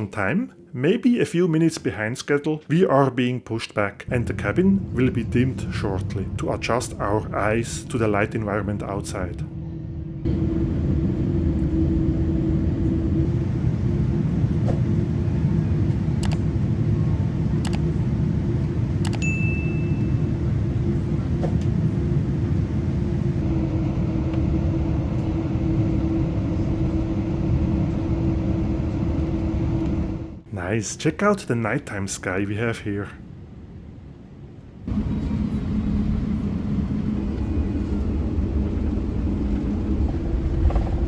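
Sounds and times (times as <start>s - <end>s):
airplane cabin rumble: 0.0s - 41.0s
constant low hum: 0.0s - 41.0s.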